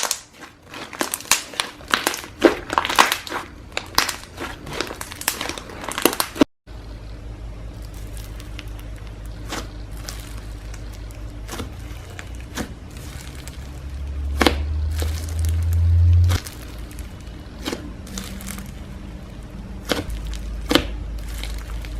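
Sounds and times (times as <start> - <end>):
slime squishing and crackling: 0.0 - 6.5, 7.7 - 21.9
low rumble: 3.6 - 21.9.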